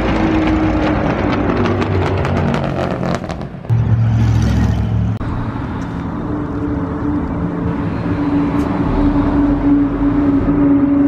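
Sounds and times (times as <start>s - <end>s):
car engines passing: 0.0s - 11.0s.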